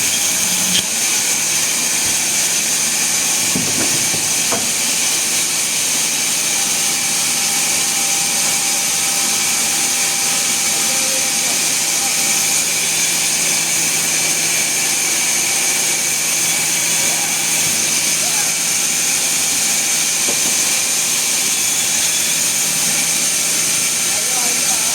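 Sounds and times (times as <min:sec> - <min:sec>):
sawmill machinery running: 0:00.0 - 0:24.9.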